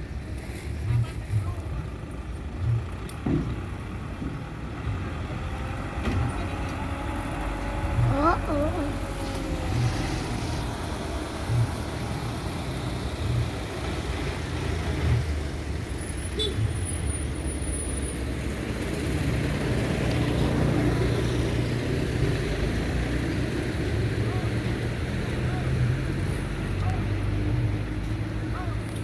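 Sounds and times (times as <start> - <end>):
heavy vehicle engine running: 0.0 - 29.0.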